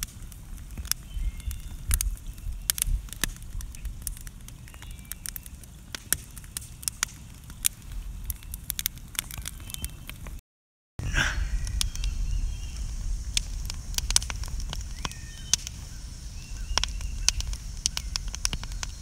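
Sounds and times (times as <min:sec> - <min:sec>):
low fire rumble: 0:00.0 - 0:10.4, 0:11.0 - 0:19.0
wood fire crackling: 0:00.0 - 0:10.4, 0:11.0 - 0:19.0.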